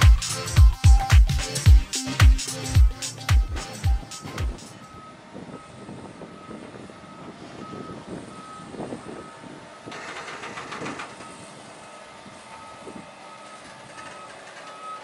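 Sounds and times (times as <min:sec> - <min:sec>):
diesel truck engine running: 0:00.0 - 0:15.0
truck reversing alarm beeps: 0:00.0 - 0:15.0.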